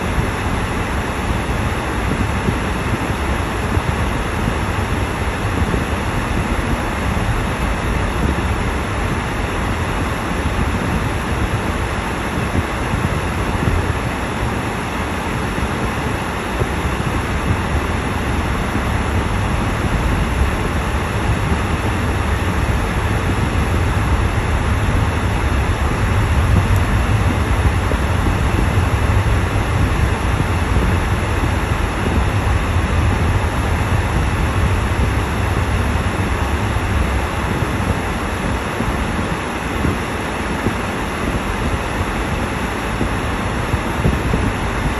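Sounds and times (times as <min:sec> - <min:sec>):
tyres and engine rumble: 0:00.0 - 0:44.9.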